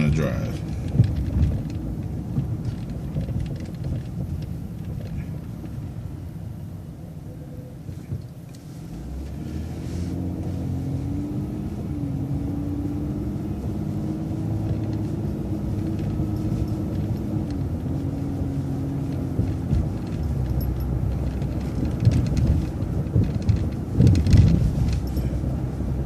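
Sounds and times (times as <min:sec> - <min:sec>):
bus engine and road rumble: 0:00.0 - 0:26.0
bus whine: 0:00.0 - 0:26.0.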